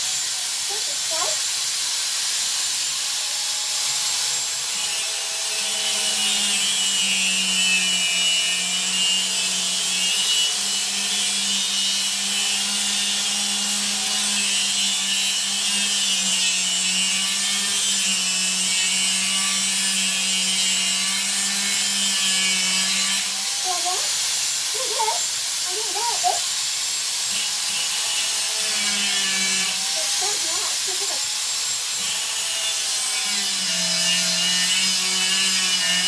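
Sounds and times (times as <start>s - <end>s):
electric power tool cutting: 0.0s - 36.0s.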